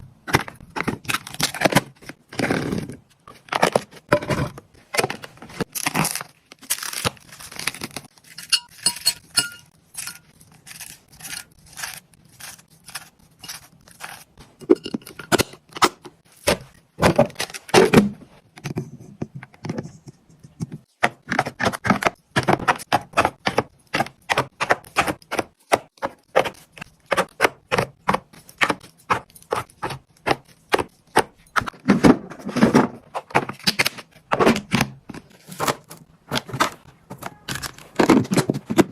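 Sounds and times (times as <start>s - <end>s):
plastic boxes and bags handled: 0.0s - 38.9s.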